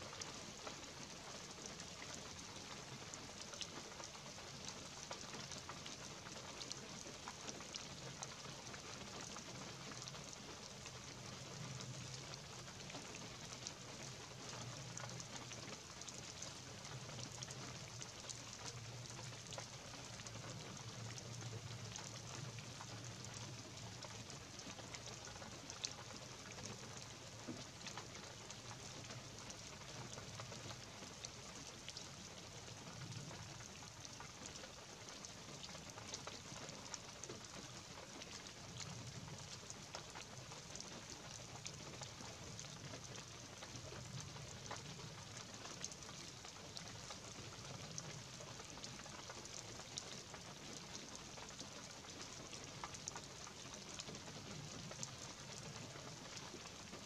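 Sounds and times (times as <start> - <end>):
light rain on pine needles: 0.0 - 57.0.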